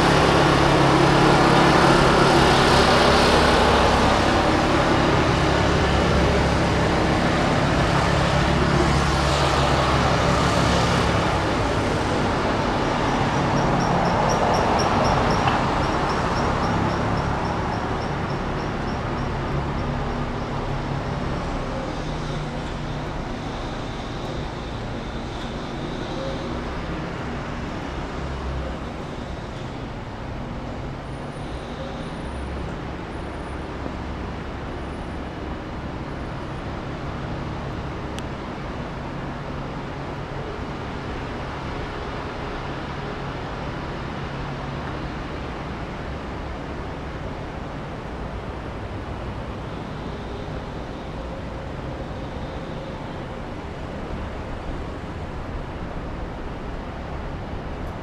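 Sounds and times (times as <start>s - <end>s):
low hum of street traffic: 0.0s - 58.0s.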